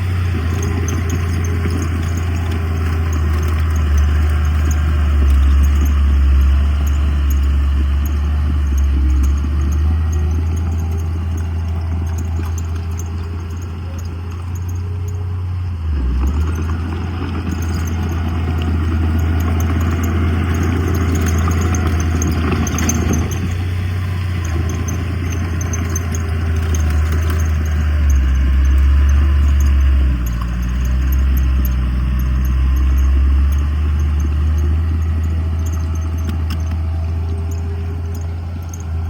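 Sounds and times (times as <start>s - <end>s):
diesel engine droning: 0.0s - 39.0s
machinery clatter: 0.0s - 39.0s.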